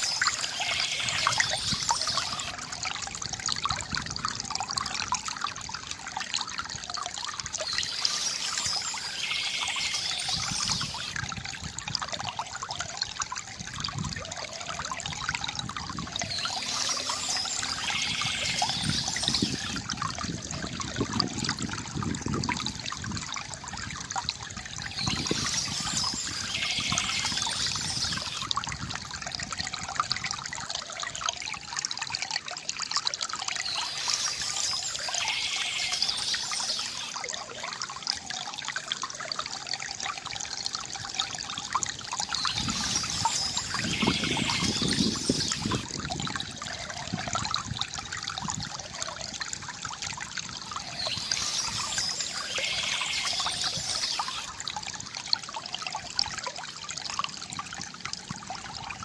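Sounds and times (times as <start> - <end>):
water trickling from bamboo fountain: 0.0 - 59.0.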